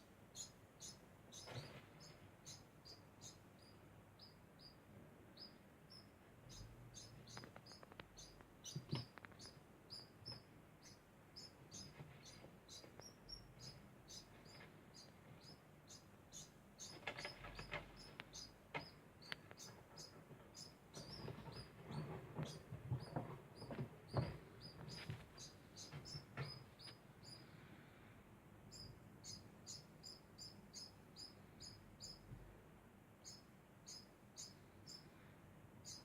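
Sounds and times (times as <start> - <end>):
degu chirping: 0.3 - 27.5, 28.7 - 32.3, 33.2 - 35.1.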